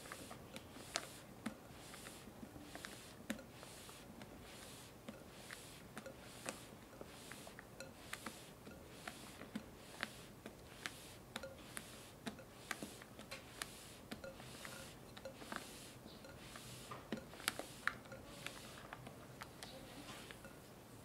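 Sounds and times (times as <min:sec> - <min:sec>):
spatula swishing thick mixture: 0:00.0 - 0:21.0.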